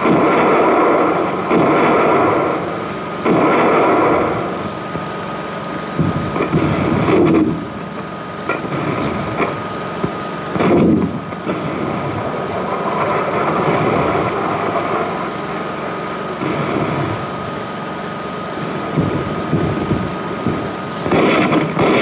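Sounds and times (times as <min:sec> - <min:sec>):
old film soundtrack hiss and tone: 0:00.0 - 0:22.0.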